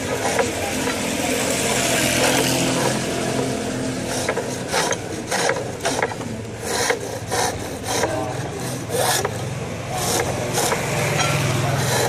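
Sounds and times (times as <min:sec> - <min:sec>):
chisel scraping wood on lathe: 0:00.0 - 0:12.0.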